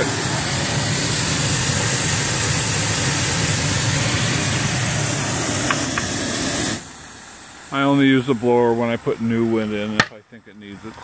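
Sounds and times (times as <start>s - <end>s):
steam rushing with low rumble: 0.0s - 10.0s.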